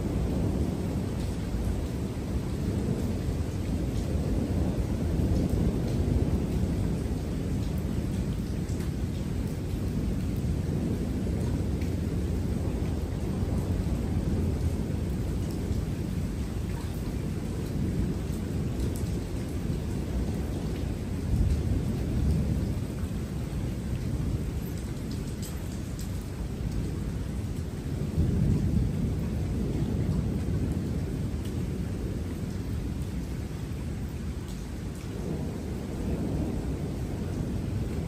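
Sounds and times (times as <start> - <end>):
faint rain: 0.0 - 38.0
thunder rumbling: 0.0 - 38.0.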